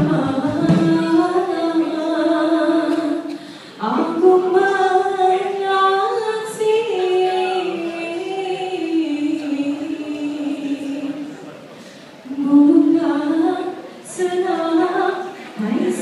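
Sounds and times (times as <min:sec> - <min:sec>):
women singing unaccompanied: 0:00.0 - 0:11.3, 0:12.3 - 0:16.0.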